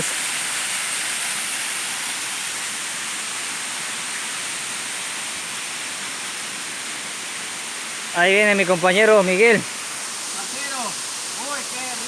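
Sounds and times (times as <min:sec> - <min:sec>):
waterfall rushing hiss: 0:00.0 - 0:12.0.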